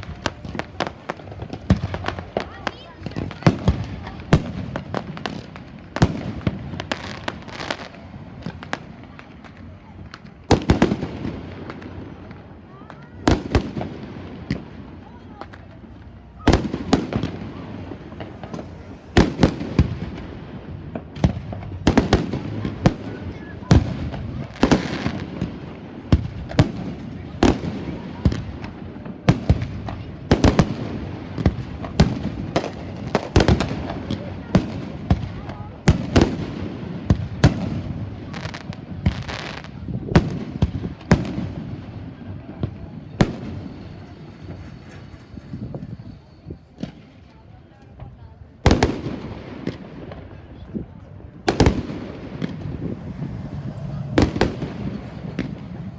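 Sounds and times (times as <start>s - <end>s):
fireworks bangs: 0.0s - 55.9s
fireworks crackling pops: 0.0s - 55.9s.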